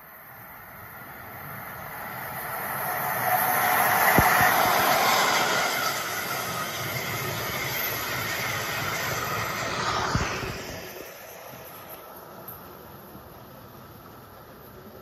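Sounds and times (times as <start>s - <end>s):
toy train whirr and rattle: 1.0s - 13.1s.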